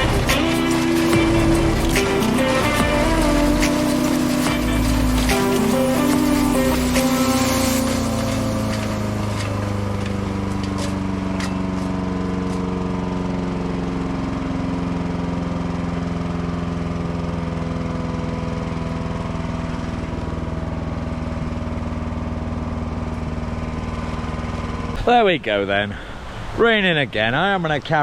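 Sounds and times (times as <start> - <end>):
wood chipper engine running: 0.0 - 25.3.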